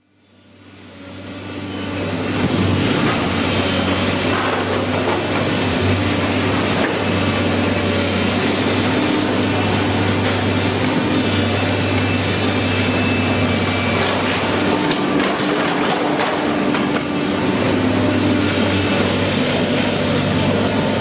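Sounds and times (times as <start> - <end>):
excavator diesel engine running: 0.1 - 21.0.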